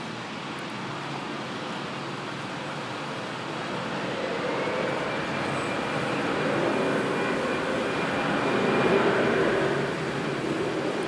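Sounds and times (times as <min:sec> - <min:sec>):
faint high engine whine: 0:00.0 - 0:11.0
jet engines on the runway: 0:00.0 - 0:11.0.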